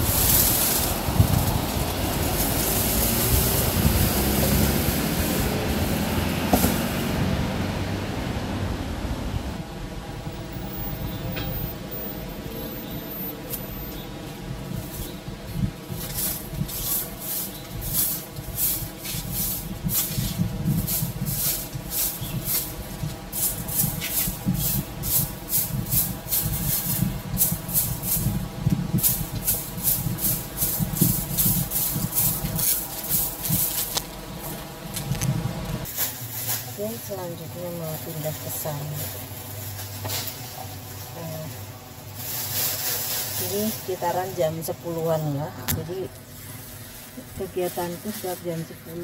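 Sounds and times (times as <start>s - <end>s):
broom sweeping concrete: 0.0s - 7.0s, 14.7s - 49.0s.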